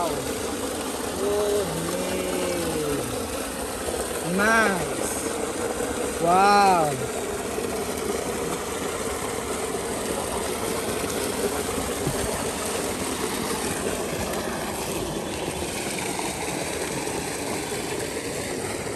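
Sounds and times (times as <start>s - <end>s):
engine-like drone: 0.0s - 18.9s.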